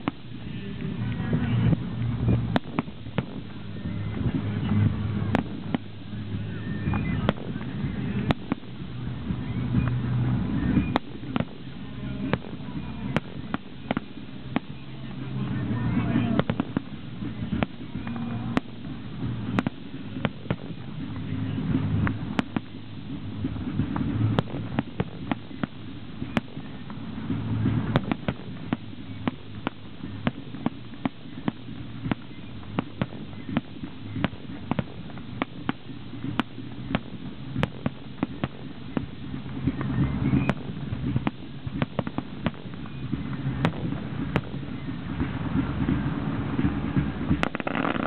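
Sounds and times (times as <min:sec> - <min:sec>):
fireworks bangs: 0:00.0 - 0:48.0
steady low rumble: 0:00.0 - 0:48.0.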